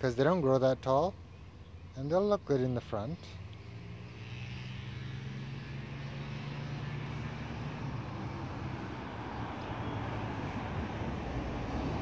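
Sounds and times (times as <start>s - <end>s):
engine-like rumble: 0.0s - 12.0s.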